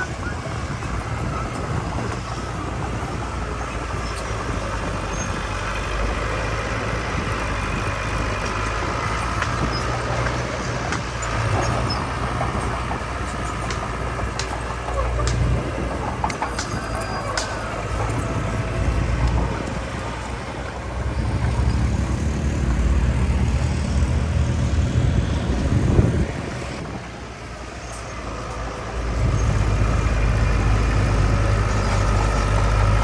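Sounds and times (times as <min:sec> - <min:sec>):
heavy diesel engine droning: 0:00.0 - 0:33.0.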